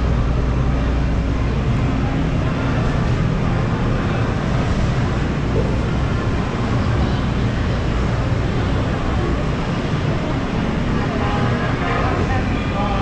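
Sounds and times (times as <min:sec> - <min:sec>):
indistinct voices: 0:00.0 - 0:13.0
low city rumble: 0:00.0 - 0:13.0.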